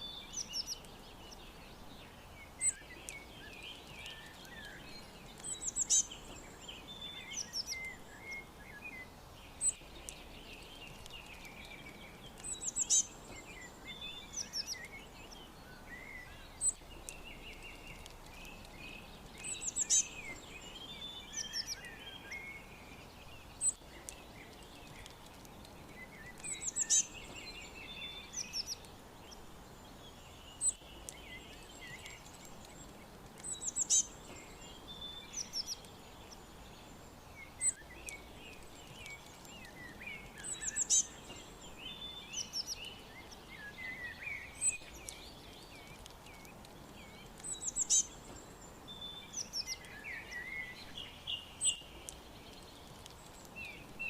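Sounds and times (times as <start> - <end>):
faint steady hiss: 0.0 - 54.0
songbirds chirping and singing: 0.0 - 54.0.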